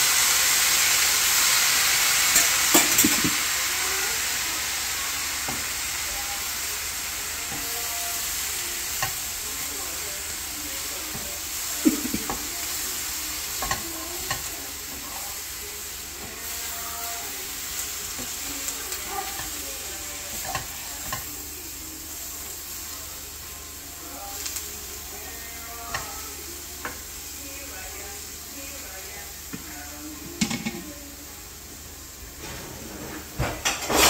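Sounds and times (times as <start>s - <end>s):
beans sizzling in a frying pan: 0.0s - 34.0s.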